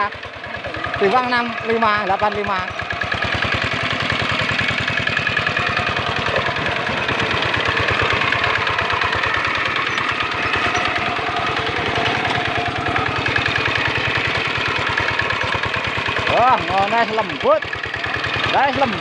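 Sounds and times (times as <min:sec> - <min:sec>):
diesel engine thudding: 0:00.0 - 0:19.0.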